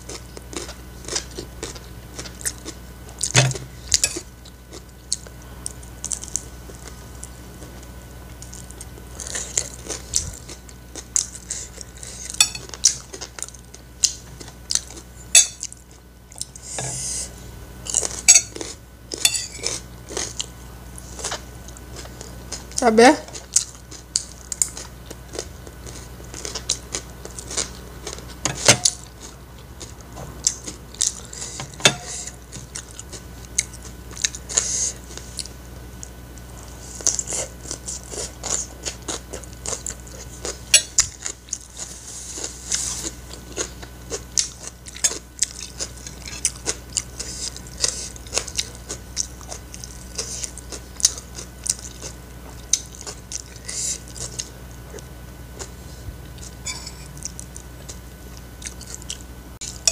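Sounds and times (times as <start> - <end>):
chewing and mouth smacking: 0.1 - 7.4, 8.3 - 16.6, 21.2 - 31.8, 32.4 - 59.9.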